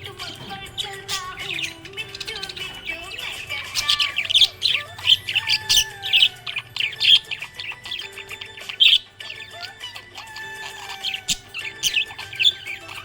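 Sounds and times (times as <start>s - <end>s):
budgerigars chirping: 0.0s - 13.0s
whistled bird notes: 0.0s - 13.0s.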